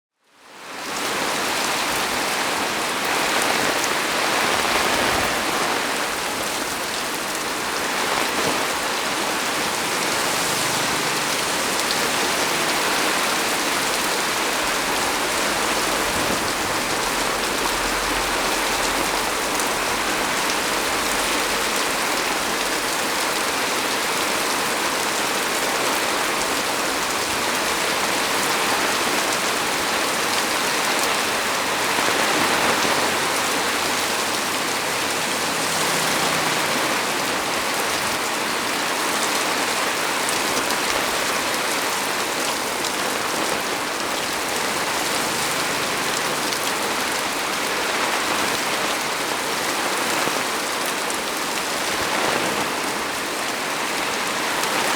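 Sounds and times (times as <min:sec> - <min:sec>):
heavy rain falling on tree: 0:00.1 - 0:54.9.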